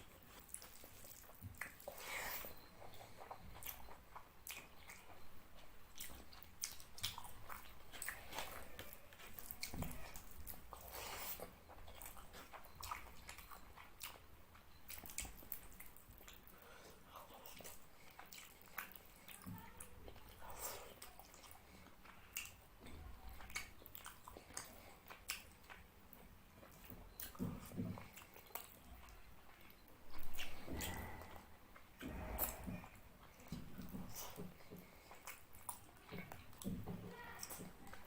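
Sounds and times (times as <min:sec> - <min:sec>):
wet chewing with mouth clicks: 0:00.0 - 0:38.0.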